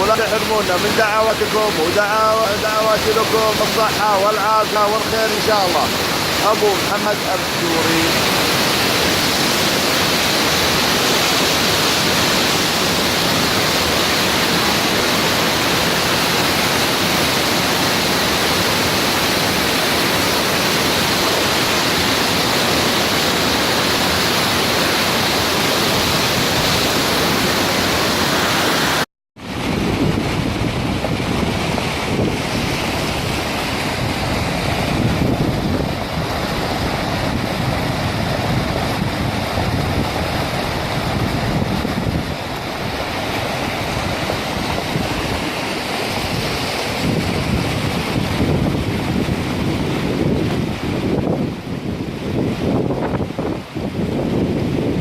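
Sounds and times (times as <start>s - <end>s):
rainwater rushing: 0.0s - 54.4s.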